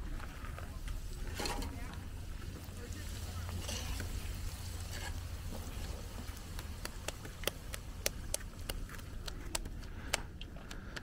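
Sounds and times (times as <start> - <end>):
bread frying in oil crackling: 0.0 - 10.1.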